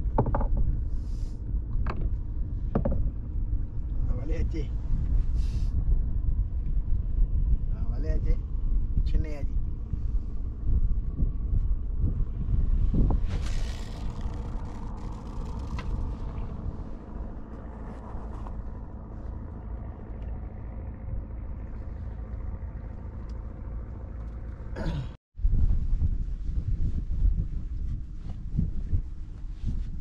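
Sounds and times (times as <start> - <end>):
boat engine rumbling: 0.0 - 25.2.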